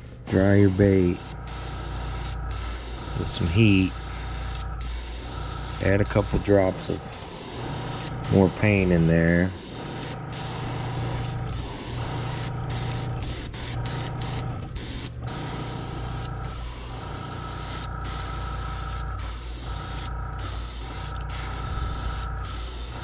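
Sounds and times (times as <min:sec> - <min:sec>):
steady low hum: 0:00.0 - 0:23.0
airbrush hissing: 0:00.3 - 0:23.0.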